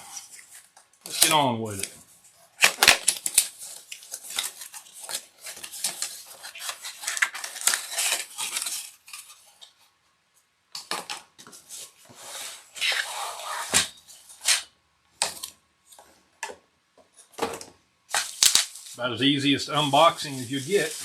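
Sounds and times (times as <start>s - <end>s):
packaging rustling and scraping: 0.0s - 9.8s, 11.0s - 16.1s, 18.1s - 19.0s, 19.7s - 21.0s.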